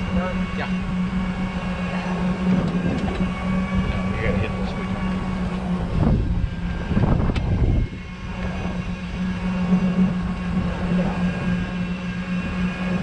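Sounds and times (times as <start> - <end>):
golf cart motor hum: 0.0 - 13.0
wind rumble on microphone: 0.0 - 13.0.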